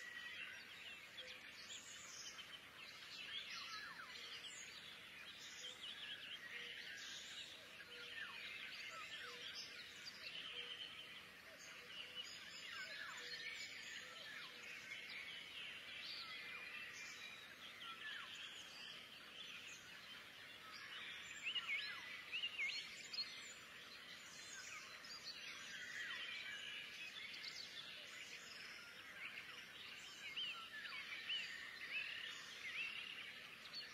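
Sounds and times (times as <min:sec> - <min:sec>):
flock of small birds chirping: 0:00.0 - 0:33.9.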